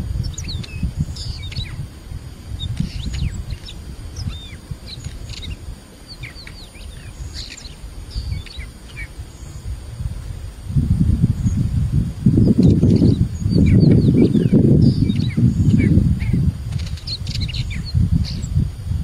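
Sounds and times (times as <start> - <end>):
small birds chirping: 0.0 - 10.6, 11.2 - 18.6.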